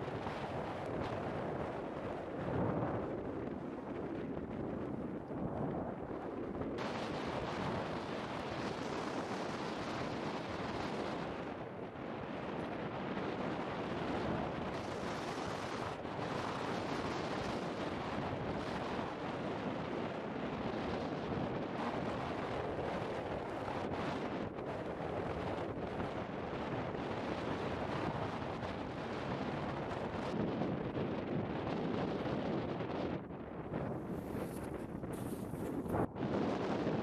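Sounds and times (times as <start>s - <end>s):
volcanic eruption roaring: 0.0s - 37.0s.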